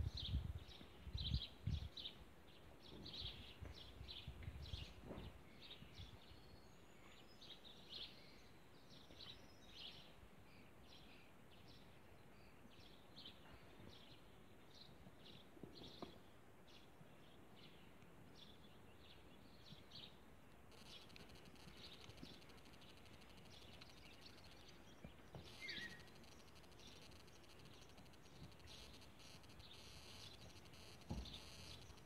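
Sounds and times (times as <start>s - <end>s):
faint birdsong chirps: 0.0s - 32.0s.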